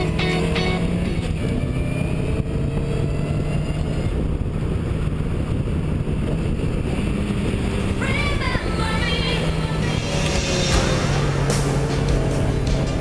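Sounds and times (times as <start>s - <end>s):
car engine at speed: 0.0s - 13.0s
wind rush on microphone: 1.0s - 11.6s.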